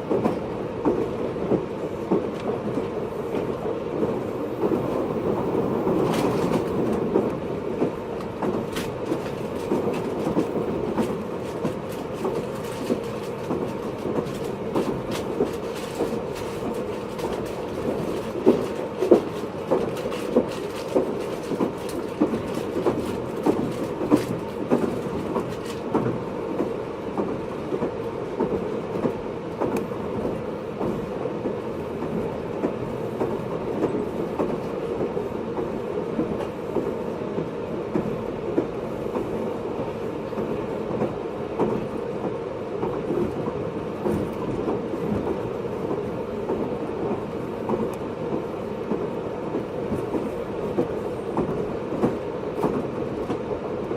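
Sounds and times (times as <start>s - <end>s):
clicks and knocks from track: 0.0s - 39.3s, 40.3s - 53.5s
train wheels rumbling on rail: 0.0s - 53.9s.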